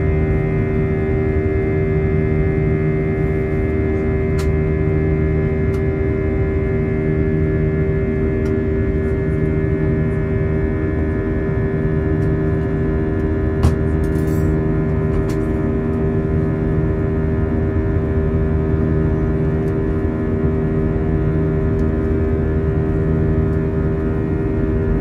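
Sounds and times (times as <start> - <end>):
aircraft cabin engine drone: 0.0 - 25.0.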